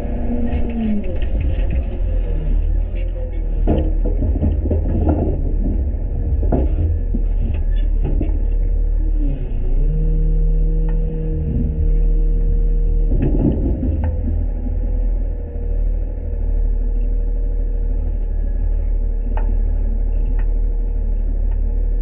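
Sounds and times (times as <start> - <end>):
clunks and rattles: 0.0 - 22.0
garbage truck rumbling: 0.0 - 22.0
steady whine: 0.0 - 22.0.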